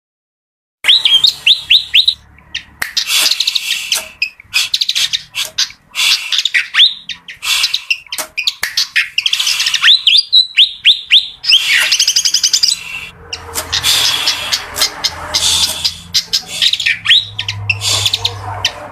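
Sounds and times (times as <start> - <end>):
bird whistling and chattering: 0.8 - 18.9.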